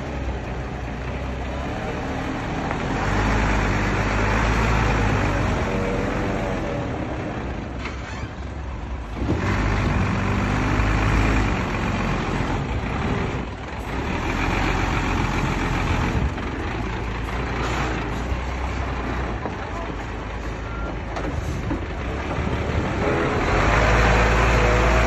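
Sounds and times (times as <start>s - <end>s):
diesel construction machinery rumble: 0.0s - 25.0s.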